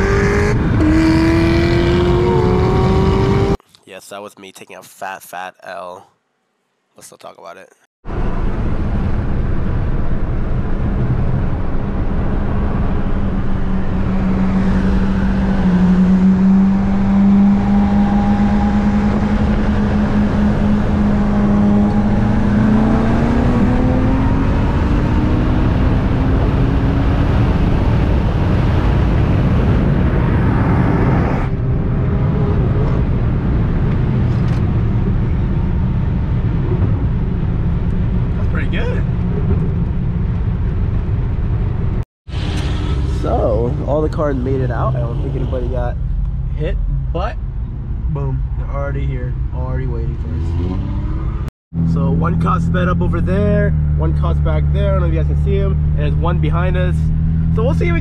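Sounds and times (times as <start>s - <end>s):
car engine accelerating: 0.0s - 3.6s, 8.1s - 58.0s
road and wind rumble: 0.0s - 3.6s, 8.0s - 58.0s.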